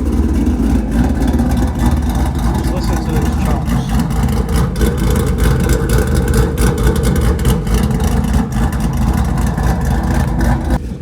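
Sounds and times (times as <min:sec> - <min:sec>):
v-eight engine choppy idle: 0:00.0 - 0:11.0.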